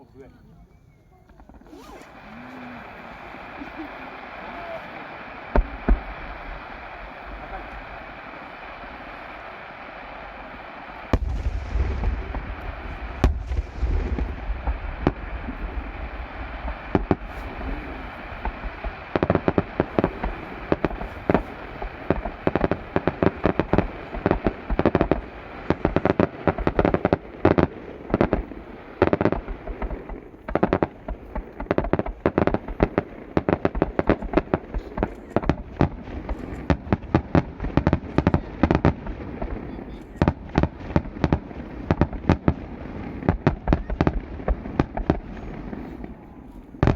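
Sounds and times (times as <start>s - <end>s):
firework bangs and crackles: 1.2s - 46.9s
deep firework boom: 1.4s - 46.9s.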